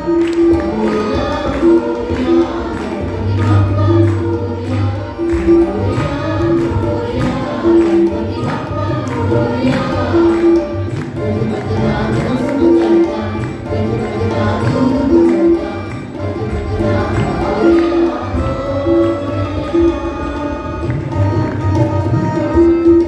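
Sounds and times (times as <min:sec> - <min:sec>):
group of people singing: 0:00.0 - 0:23.0
hand drums beating: 0:00.0 - 0:23.0
keyboard: 0:00.0 - 0:23.0.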